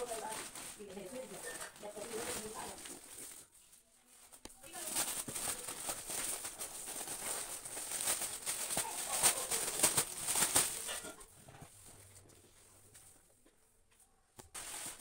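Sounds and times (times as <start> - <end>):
plastic rustling and crinkling: 0.0 - 15.0.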